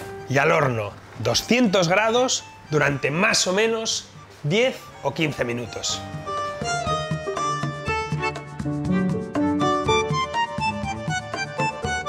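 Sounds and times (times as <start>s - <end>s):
instrumental tune of quick notes: 1.3s - 12.0s.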